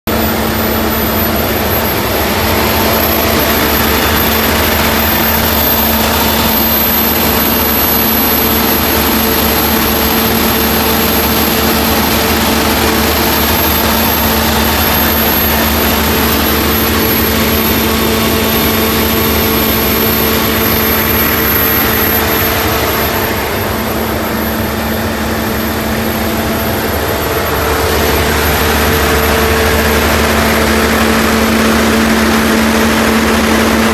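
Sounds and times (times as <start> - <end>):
diesel generator running: 0.1 - 33.9.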